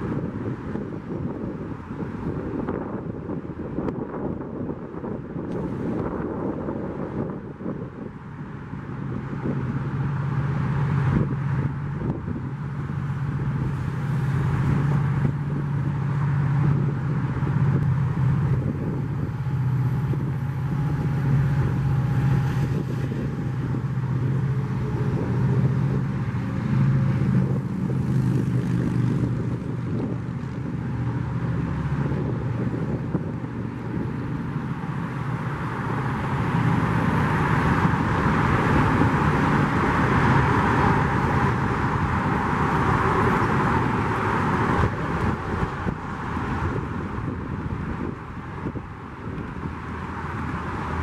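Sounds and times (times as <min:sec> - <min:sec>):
diesel locomotive drone: 0:00.0 - 0:51.0
freeway traffic rushing past: 0:00.0 - 0:51.0.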